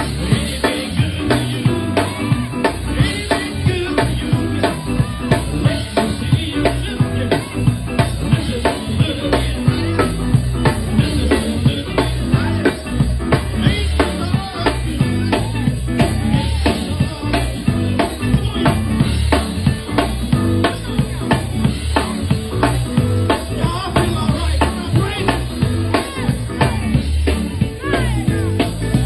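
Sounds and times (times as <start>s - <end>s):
bass: 0.0s - 29.0s
drum kit steady beat: 0.0s - 29.0s
keyboards: 0.0s - 29.0s.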